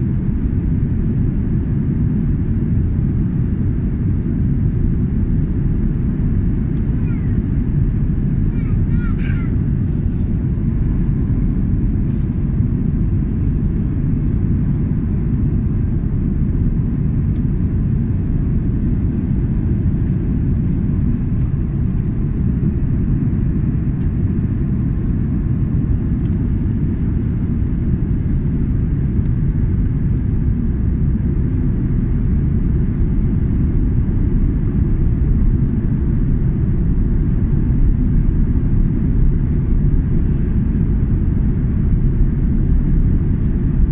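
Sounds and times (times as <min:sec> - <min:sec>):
aircraft cabin rumble: 0:00.0 - 0:43.9.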